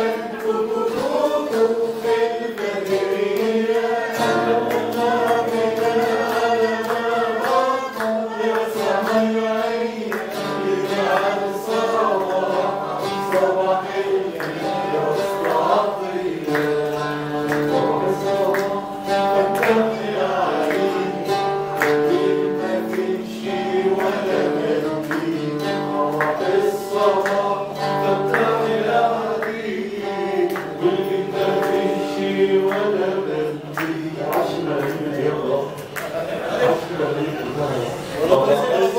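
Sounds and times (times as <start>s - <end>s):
string instrument strummed and plucked: 0.0s - 35.2s.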